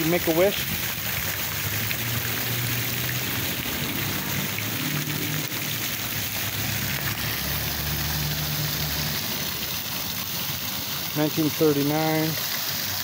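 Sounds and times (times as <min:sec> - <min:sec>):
water fountain splashing: 0:00.0 - 0:13.0.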